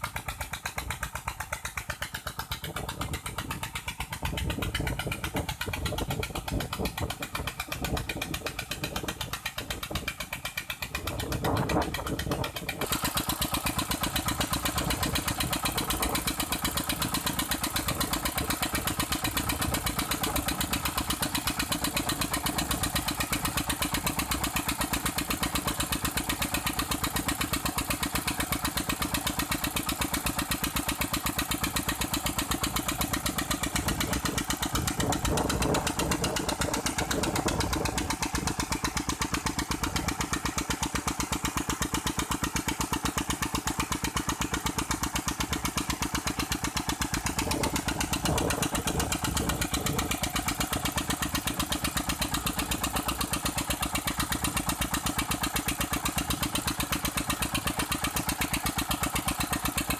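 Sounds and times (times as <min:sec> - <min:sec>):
diesel engine running steadily: 0:00.0 - 0:59.9
water pump delivering water: 0:00.0 - 0:59.9.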